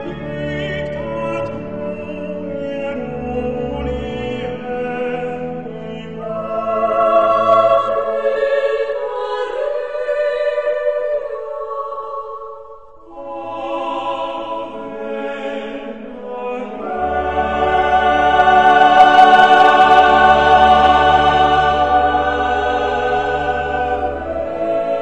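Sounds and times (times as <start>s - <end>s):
choral singing: 0.0s - 25.0s.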